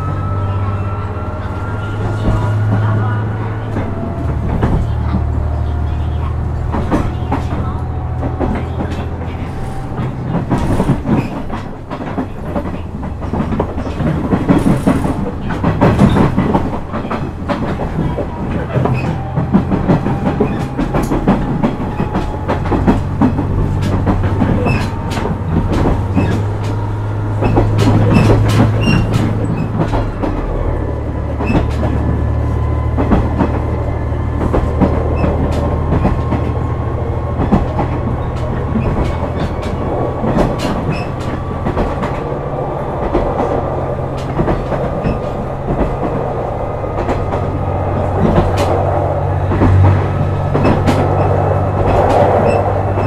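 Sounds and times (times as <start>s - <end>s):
diesel railcar engine droning: 0.0s - 53.0s
wheels clicking over rail joints: 2.0s - 53.0s.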